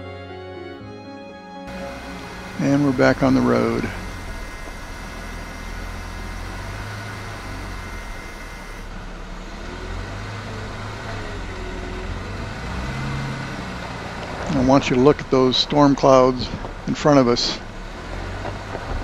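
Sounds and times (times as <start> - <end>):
car engine and road rumble: 1.7 - 19.0.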